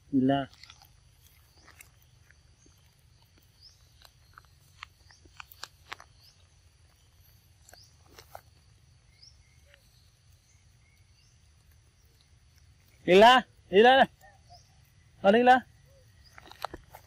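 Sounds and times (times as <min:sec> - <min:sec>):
monkeys chewing fruit: 0:00.0 - 0:17.0
faint high chirp: 0:00.1 - 0:17.0.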